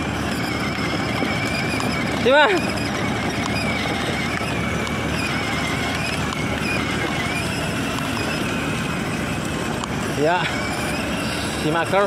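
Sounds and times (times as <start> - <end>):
toy motor high whine: 0.0 - 12.0
wheels rolling on wet asphalt: 0.0 - 12.0.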